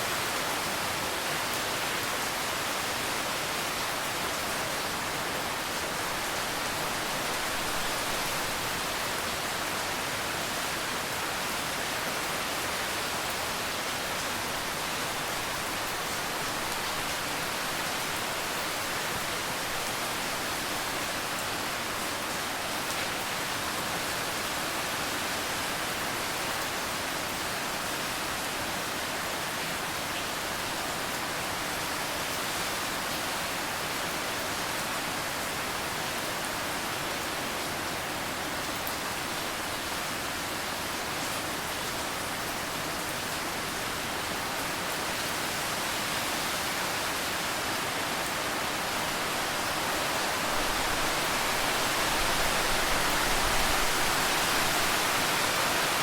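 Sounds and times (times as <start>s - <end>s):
steady dense rainfall: 0.0s - 56.0s.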